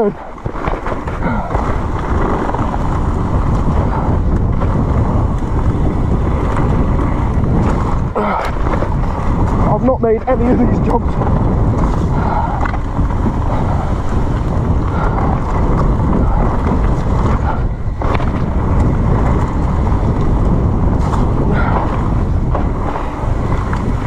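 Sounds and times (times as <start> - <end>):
bike tyre and trail noise: 0.0 - 24.0
wind buffeting microphone: 0.0 - 24.0.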